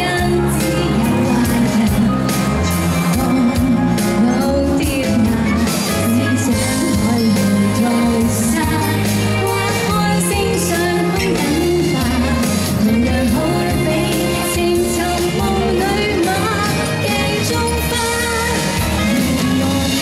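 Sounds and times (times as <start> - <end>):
bass and drum beat: 0.0 - 20.0
woman singing: 0.0 - 20.0.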